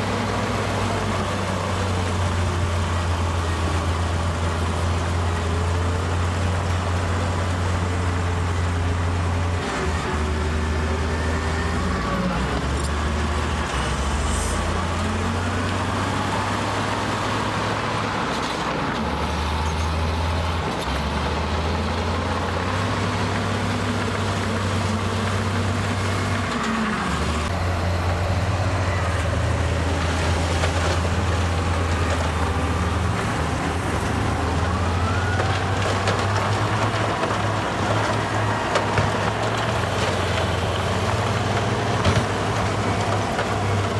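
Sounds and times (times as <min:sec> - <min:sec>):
heavy diesel machinery engine running: 0:00.0 - 0:43.9.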